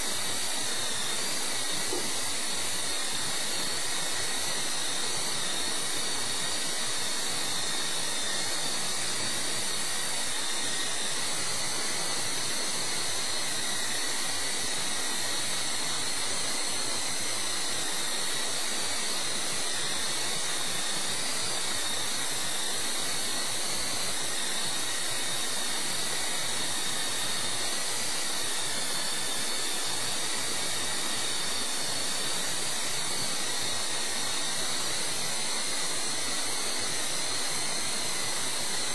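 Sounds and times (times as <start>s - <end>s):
rc helicopter motors whirring: 0.0s - 38.9s.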